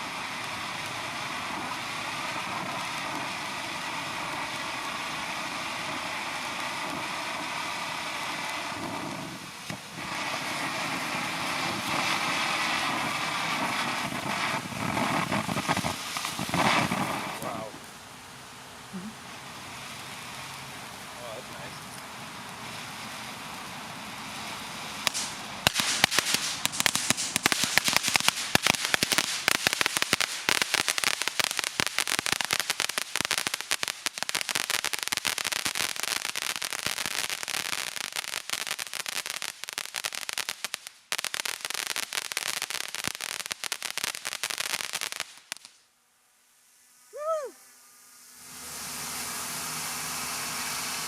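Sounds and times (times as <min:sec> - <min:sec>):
firework pops and crackles: 0:00.0 - 0:17.8, 0:19.5 - 0:45.8
firework fizzing hiss: 0:00.0 - 0:51.0.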